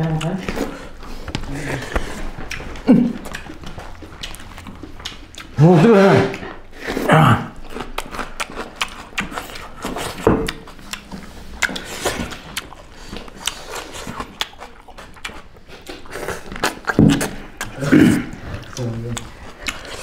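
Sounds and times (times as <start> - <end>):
hands mixing rice on plates: 0.0 - 20.0
wet chewing and lip smacking: 0.0 - 20.0.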